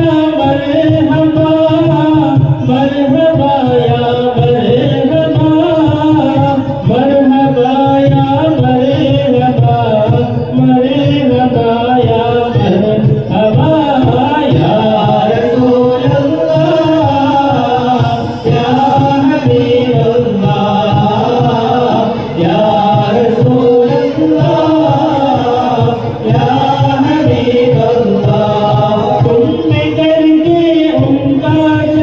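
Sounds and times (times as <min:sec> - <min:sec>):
men singing in unison: 0:00.0 - 0:32.0.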